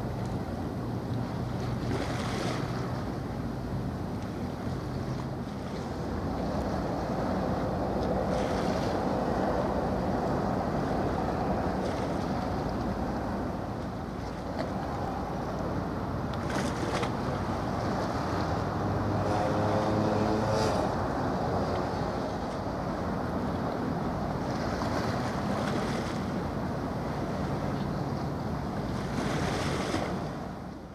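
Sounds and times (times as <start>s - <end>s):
distant ship engines humming: 0.0s - 30.9s
harbour water: 0.0s - 30.9s.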